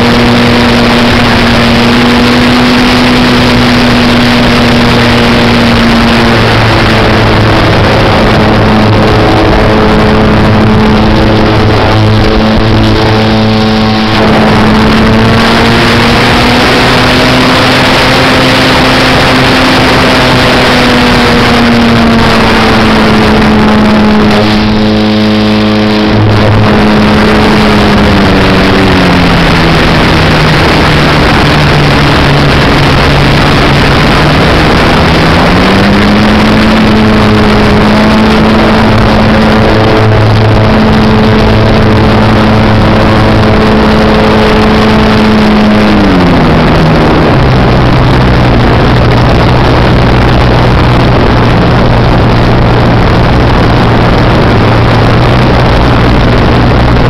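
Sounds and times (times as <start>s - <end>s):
model plane engine: 0.0s - 49.5s
loud wind noise: 0.0s - 57.0s.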